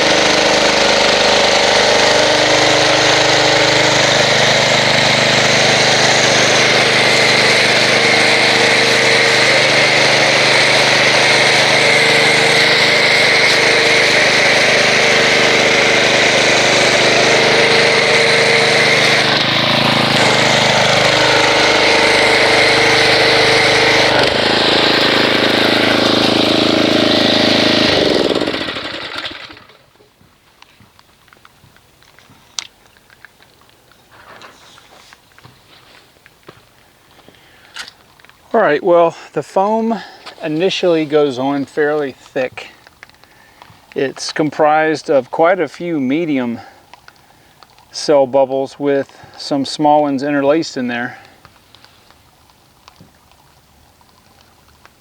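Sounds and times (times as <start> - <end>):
pressure washer running: 0.0 - 30.0, 36.5 - 51.4.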